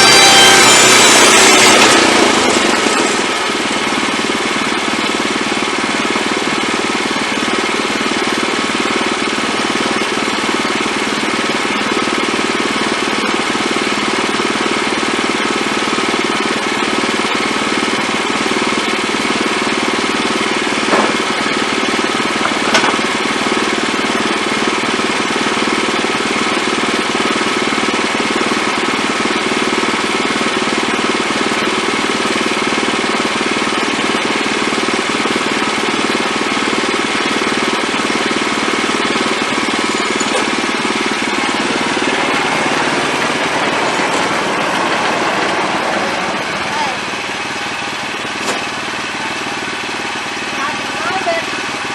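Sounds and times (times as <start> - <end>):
band sawmill running: 0.0 - 51.9.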